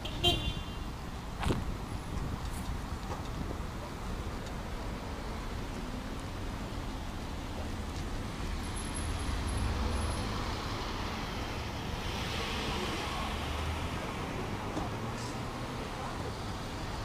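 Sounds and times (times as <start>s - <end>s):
rush of road noise: 0.0s - 17.0s.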